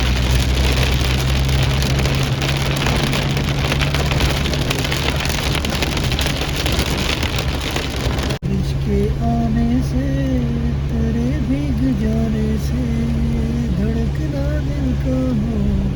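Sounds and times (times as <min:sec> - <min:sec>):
constant low hum: 0:00.0 - 0:15.9
rain falling: 0:00.0 - 0:15.9.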